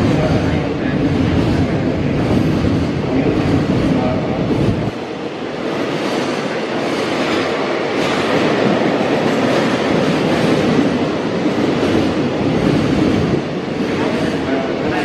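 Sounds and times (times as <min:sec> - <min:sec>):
steel wheels running on rails: 0:00.0 - 0:15.0.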